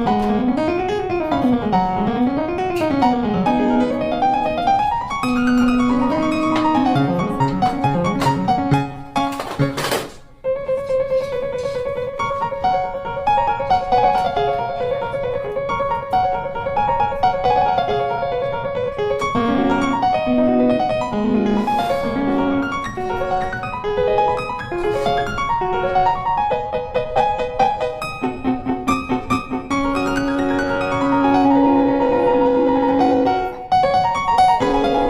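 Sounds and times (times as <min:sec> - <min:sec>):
instrumental piano music: 0:00.0 - 0:35.0.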